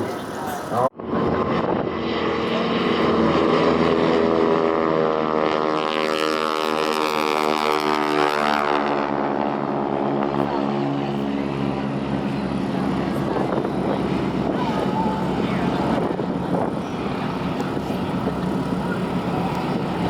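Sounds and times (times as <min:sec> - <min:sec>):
propeller aircraft flying past: 0:00.0 - 0:20.0.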